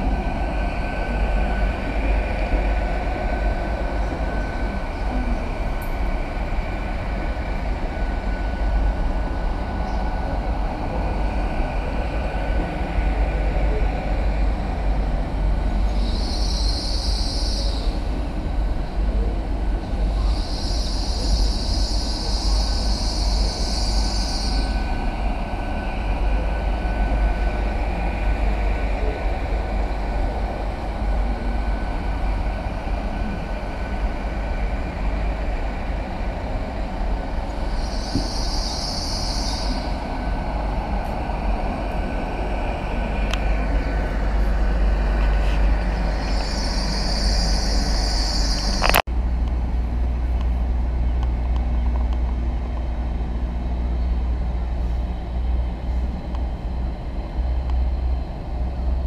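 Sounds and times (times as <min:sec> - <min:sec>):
standing train low hum: 0:00.0 - 0:59.0
train wheels rumbling on rails: 0:00.0 - 0:59.0.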